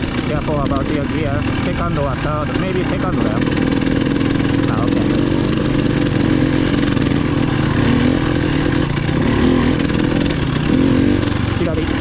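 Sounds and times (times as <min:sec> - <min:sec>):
dirt bike engine at low revs: 0:00.0 - 0:12.0.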